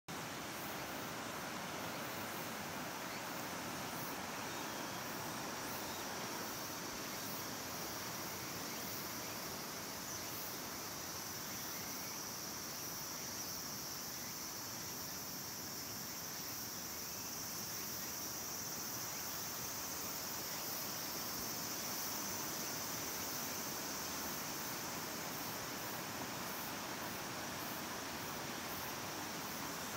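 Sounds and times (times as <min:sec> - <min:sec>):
insect chorus: 0:00.1 - 0:29.9.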